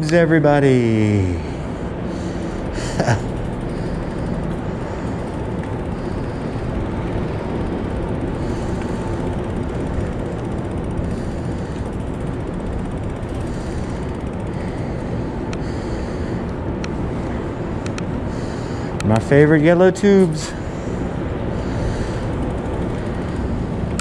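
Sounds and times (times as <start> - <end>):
bicycle rolling: 1.2 - 19.4, 20.2 - 24.0.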